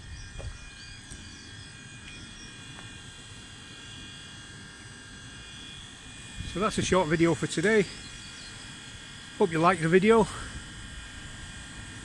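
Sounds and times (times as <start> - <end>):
electric train humming: 0.0 - 10.2.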